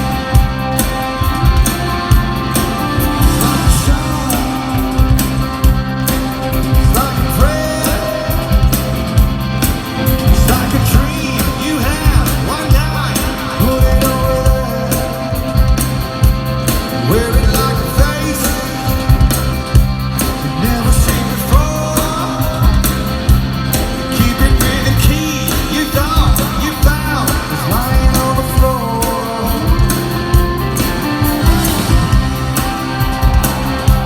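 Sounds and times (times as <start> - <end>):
drums keeping a steady beat: 0.0 - 34.0
live rock band music: 0.0 - 34.0
lead vocal singing: 2.5 - 8.8, 10.0 - 15.8, 16.9 - 19.4, 20.3 - 23.2, 24.0 - 34.0.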